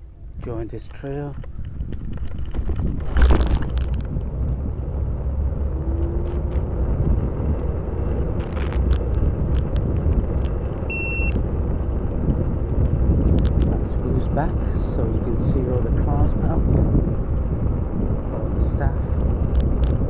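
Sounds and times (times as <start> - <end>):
rolling tyre noise: 0.0 - 20.0
wind buffeting microphone: 0.0 - 20.0.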